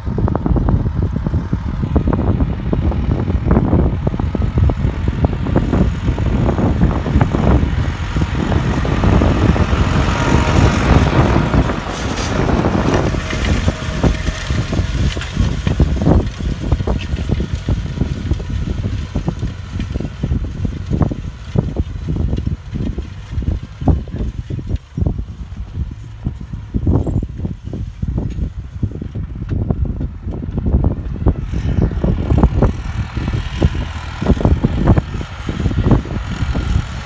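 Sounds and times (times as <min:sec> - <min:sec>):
tractor engine under load: 0:00.0 - 0:37.0
wind buffeting microphone: 0:00.0 - 0:37.0.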